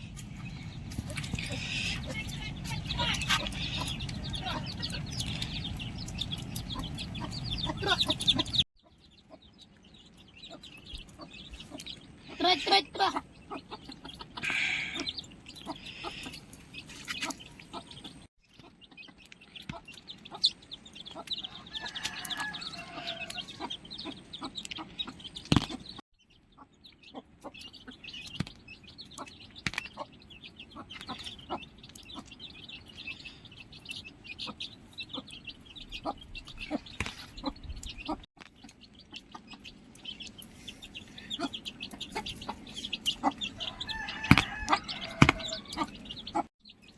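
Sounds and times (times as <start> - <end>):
chickens clucking and chirping: 0.0 - 46.9.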